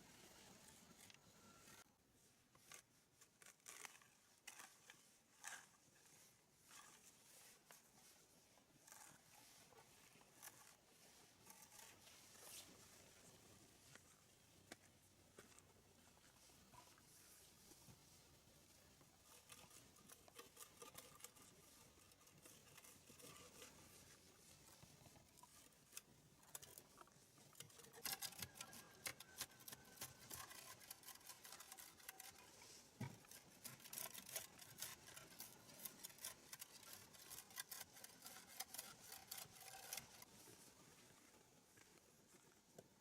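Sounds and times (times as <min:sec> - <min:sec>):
faint clicks and scratches: 0:00.0 - 0:43.0.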